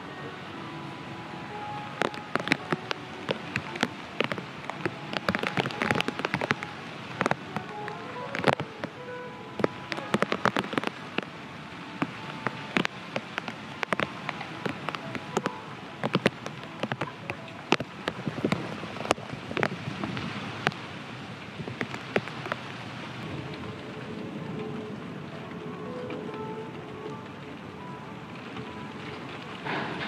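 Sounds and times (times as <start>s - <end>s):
heavy rain hiss: 0.0s - 30.0s
large raindrops ticking: 0.0s - 30.0s.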